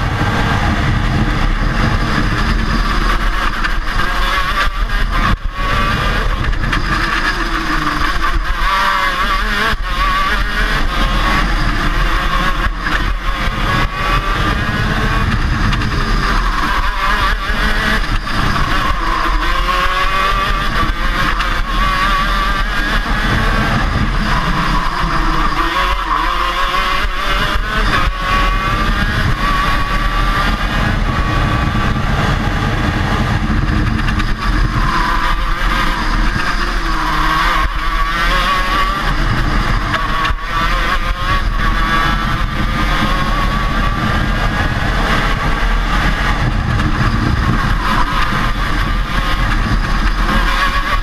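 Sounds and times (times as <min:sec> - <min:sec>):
kart engine racing: 0:00.0 - 0:51.0.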